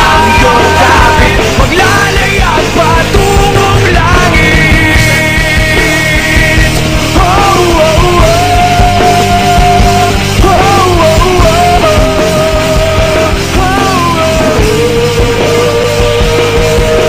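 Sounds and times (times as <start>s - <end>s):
full band with drums: 0.0s - 17.0s
rock song with bending lead melody: 0.0s - 17.0s.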